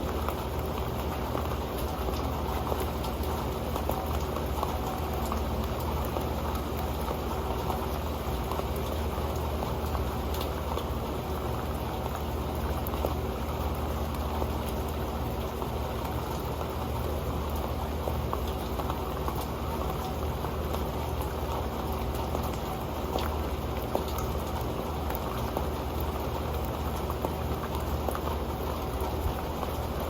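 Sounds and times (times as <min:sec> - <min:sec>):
rain pattering on a pan: 0:00.0 - 0:30.0.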